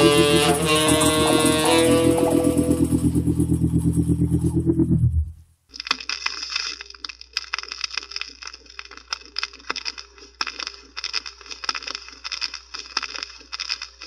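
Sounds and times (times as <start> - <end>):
dense crackling: 0.0 - 14.0.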